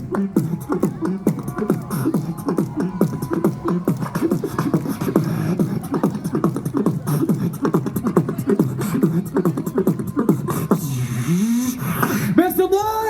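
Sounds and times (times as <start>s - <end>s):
beatboxing kick and snare: 0.0s - 12.4s.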